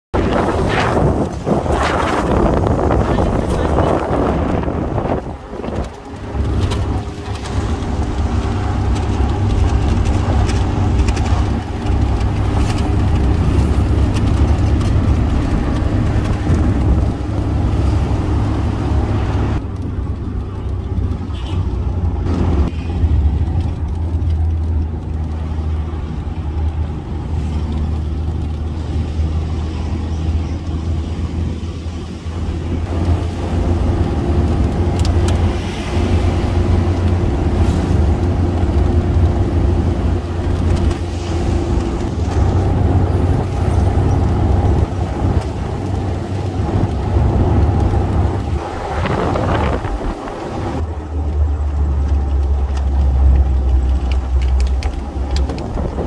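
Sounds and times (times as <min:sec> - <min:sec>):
road and wind noise: 0:00.0 - 0:56.0
vehicle engine cruising: 0:00.1 - 0:56.0.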